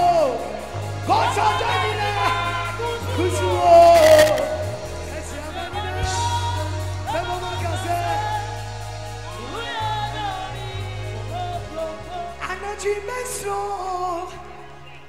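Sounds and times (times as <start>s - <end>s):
band with bass notes: 0.0s - 15.0s
woman singing gospel: 1.1s - 14.4s.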